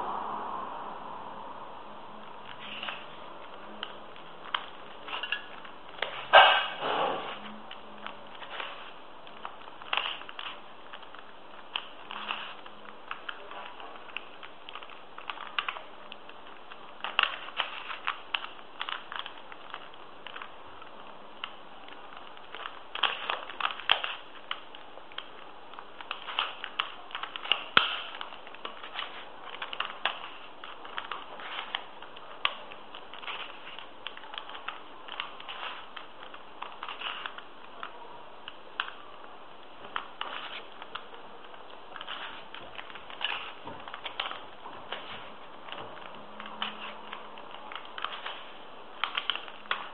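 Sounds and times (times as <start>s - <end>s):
puzzle cube plastic clicks: 7.3s - 49.9s.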